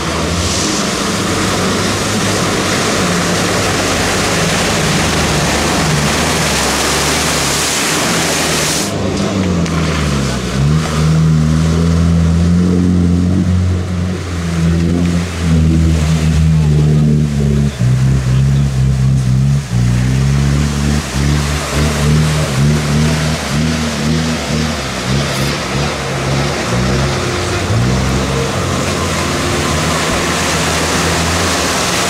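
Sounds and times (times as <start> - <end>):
suv engine revving: 0.0 - 32.0
water splashing and spraying: 0.0 - 32.0.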